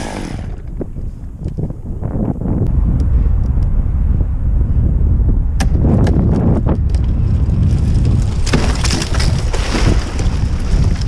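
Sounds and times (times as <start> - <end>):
wind buffeting a microphone: 0.0 - 11.0.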